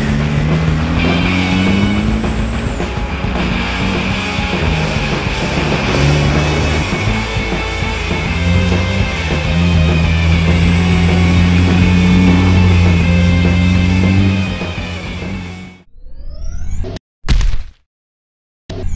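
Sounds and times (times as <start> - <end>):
rock music with bass notes: 0.0 - 15.8.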